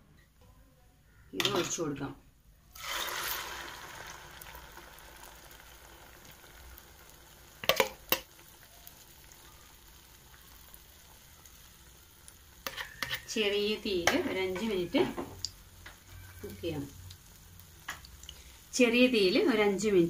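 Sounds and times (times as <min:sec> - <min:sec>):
omelette sizzling in a frying pan: 0:02.7 - 0:20.0.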